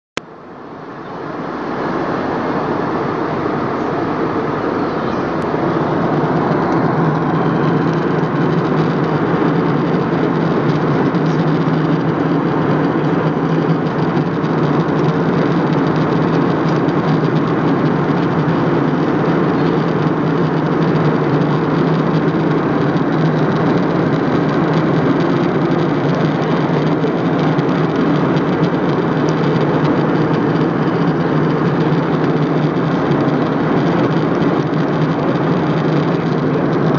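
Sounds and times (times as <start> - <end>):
airliner cabin drone: 0.2 - 36.9.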